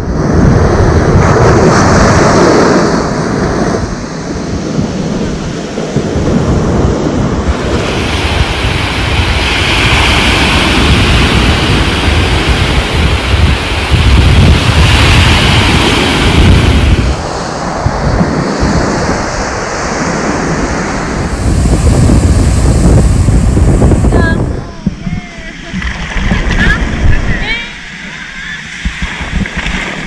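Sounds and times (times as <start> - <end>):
ocean waves breaking on beach: 0.0 - 30.0
wind buffeting microphone: 0.0 - 30.0.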